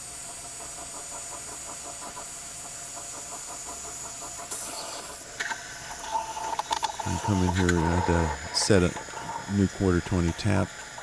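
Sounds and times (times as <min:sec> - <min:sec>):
machine drilling with pulsing: 0:00.0 - 0:11.0.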